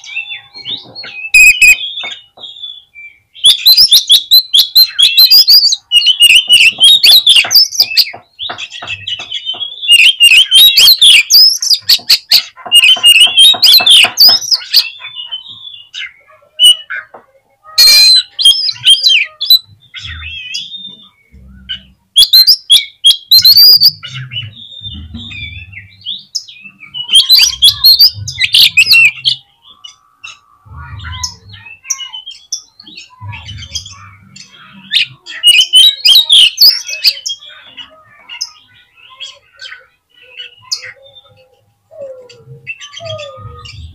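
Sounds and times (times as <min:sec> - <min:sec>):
magpie-robin singing: 0:00.0 - 0:43.9.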